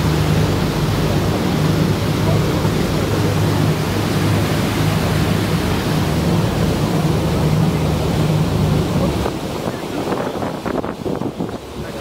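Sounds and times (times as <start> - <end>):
boat motor humming: 0.0 - 12.0
rushing white water: 0.0 - 12.0.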